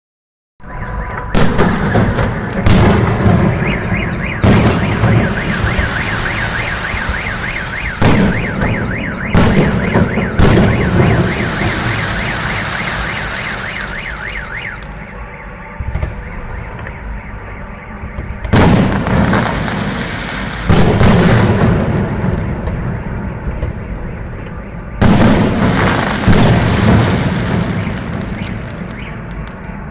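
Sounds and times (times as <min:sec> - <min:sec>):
car alarm warbling: 0:00.6 - 0:29.9
fireworks bangs: 0:00.8 - 0:17.2, 0:17.9 - 0:29.9.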